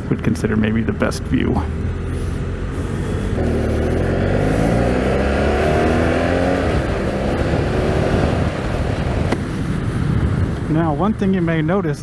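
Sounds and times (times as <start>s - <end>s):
motorcycle engine accelerating: 0.0s - 10.7s.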